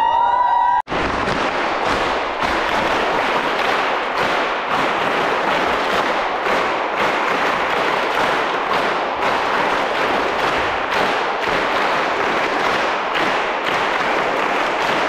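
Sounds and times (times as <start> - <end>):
crowd applauding: 2.2 - 15.0.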